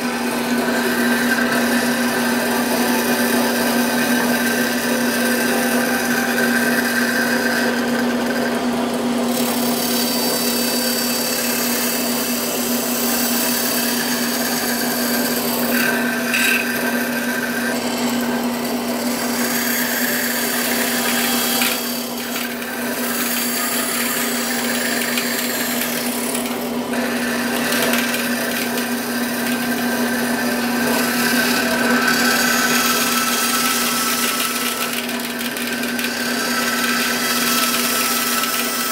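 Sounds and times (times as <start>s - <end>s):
bandsaw motor hum: 0.0s - 38.9s
saw blade rasping through wood: 0.0s - 38.9s.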